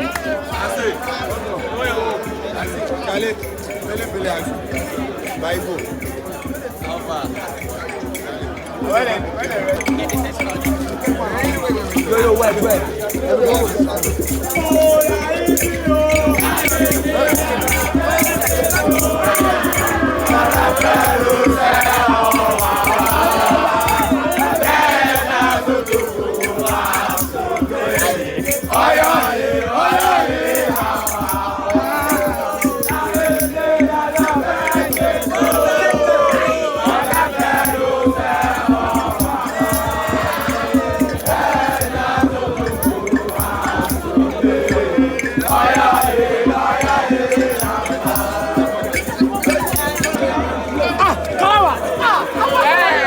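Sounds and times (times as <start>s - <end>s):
crowd singing a chant: 0.0s - 53.0s
rattles shaken rhythmically: 0.0s - 53.0s.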